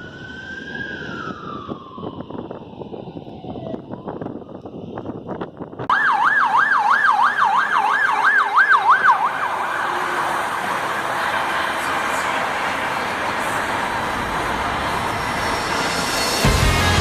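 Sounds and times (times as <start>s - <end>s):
fire engine siren yelping: 0.0s - 5.3s, 5.9s - 16.5s.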